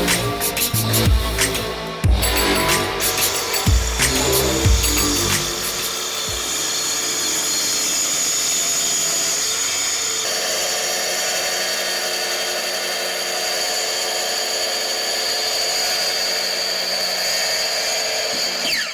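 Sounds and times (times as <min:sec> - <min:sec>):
electric saw cutting plywood: 0:00.0 - 0:18.9.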